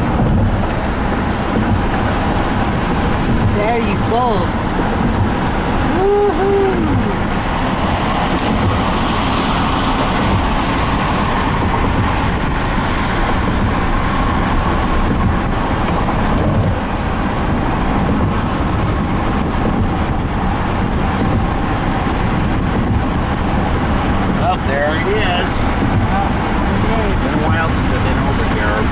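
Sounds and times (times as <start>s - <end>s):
car road noise from inside: 0.0s - 28.9s.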